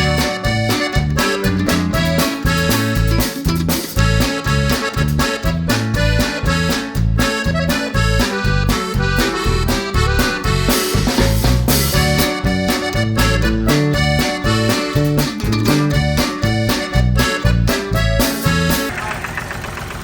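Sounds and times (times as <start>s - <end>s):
upbeat accordion music with drums: 0.0s - 18.9s.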